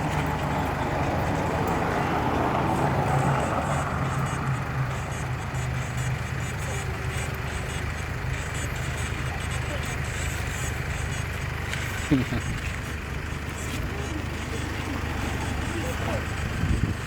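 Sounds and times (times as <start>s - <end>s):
motor engine humming: 0.0s - 17.0s
noisy background: 0.0s - 17.0s.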